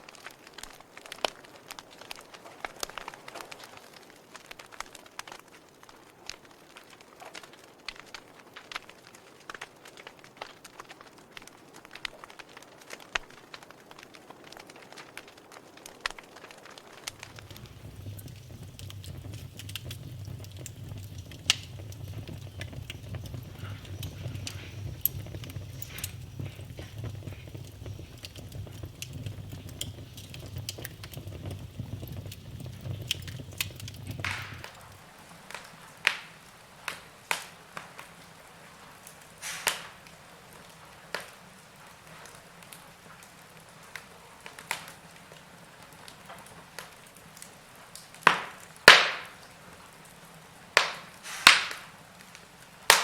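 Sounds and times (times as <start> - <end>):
low rumble of flames: 0.0 - 52.9
wood fire crackling: 0.0 - 53.0
sharp pops of burning logs: 0.1 - 38.1, 39.1 - 40.0, 46.8 - 49.5, 50.8 - 53.0.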